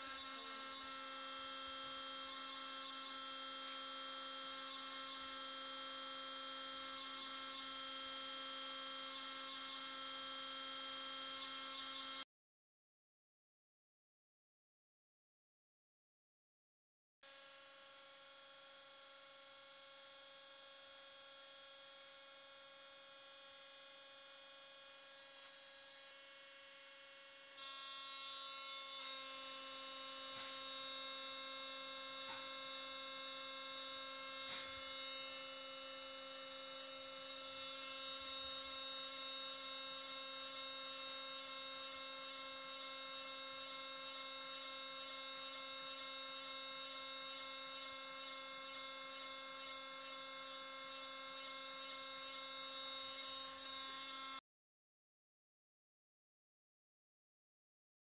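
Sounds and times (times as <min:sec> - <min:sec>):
hydraulic pump hum and whine: 0:00.0 - 0:12.2, 0:17.3 - 0:54.4.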